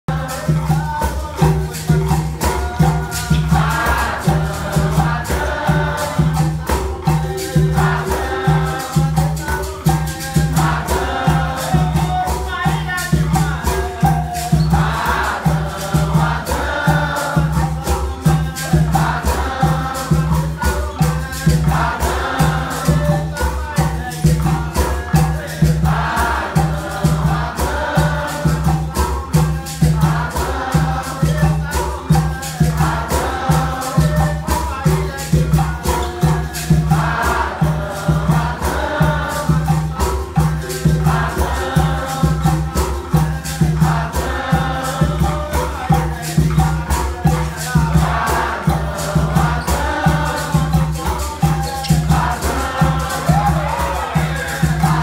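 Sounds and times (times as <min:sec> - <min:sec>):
group singing: 0:00.1 - 0:55.0
hand drum beat: 0:00.1 - 0:55.0
shaker rattles: 0:00.1 - 0:55.0.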